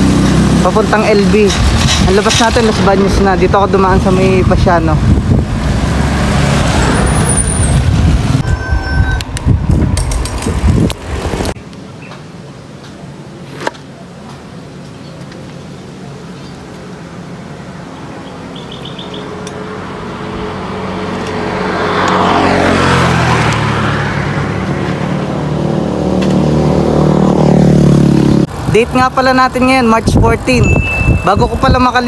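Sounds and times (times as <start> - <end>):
vehicles passing on road: 0.0 - 32.0.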